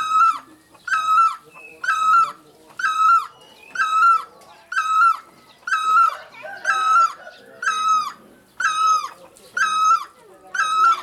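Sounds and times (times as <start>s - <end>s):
bird calling clear notes: 0.0s - 11.0s.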